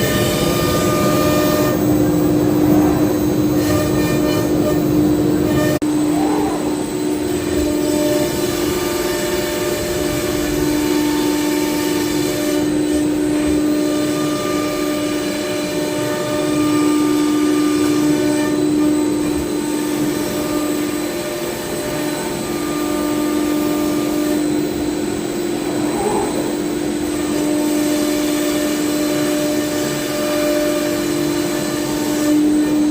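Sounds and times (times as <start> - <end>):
router spindle cutting wood: 0.0 - 6.1, 6.8 - 32.9.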